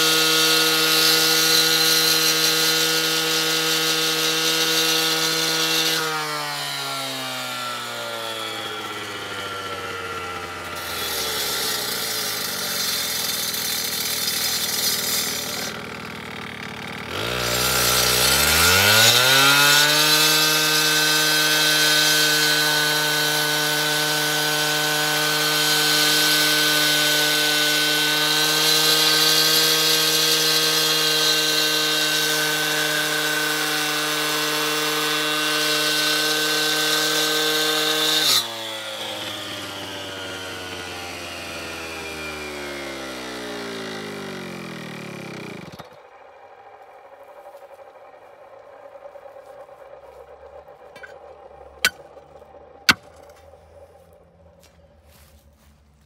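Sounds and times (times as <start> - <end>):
cut-off saw engine revving: 0.0 - 54.6
saw blade cutting concrete: 0.0 - 54.6.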